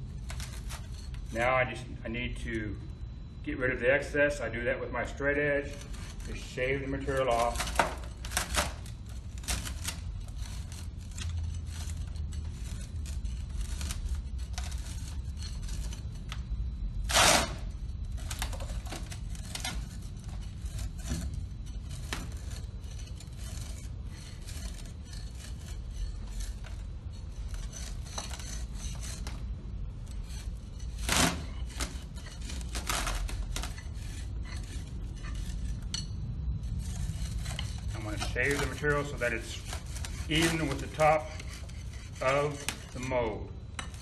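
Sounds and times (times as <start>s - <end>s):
straightedge scraping metal rim: 0.0s - 44.0s.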